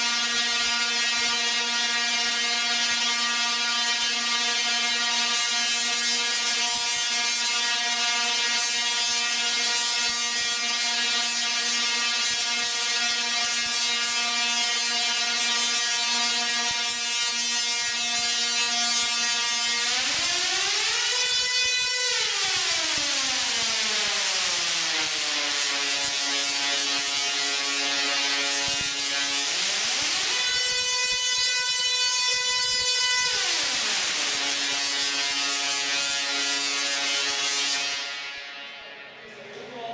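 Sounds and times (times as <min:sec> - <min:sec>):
tesla coil arcs buzzing: 0:00.0 - 0:38.7.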